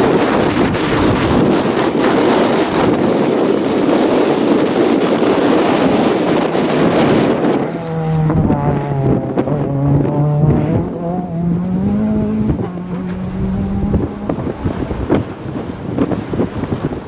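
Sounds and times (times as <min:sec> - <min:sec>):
rally car engine and tyres rushing: 0:00.0 - 0:17.0
wind buffeting microphone: 0:00.0 - 0:17.0.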